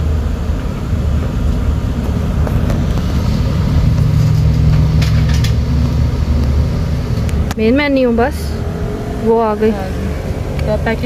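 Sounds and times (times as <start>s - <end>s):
steady low hum: 0.0s - 11.0s
vehicle engine rumbling: 0.0s - 11.0s.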